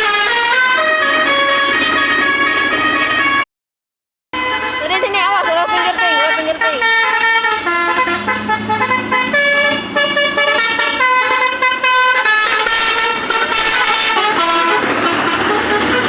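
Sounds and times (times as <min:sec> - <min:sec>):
multi-tone horn playing a tune: 0:00.0 - 0:03.4, 0:04.4 - 0:16.0.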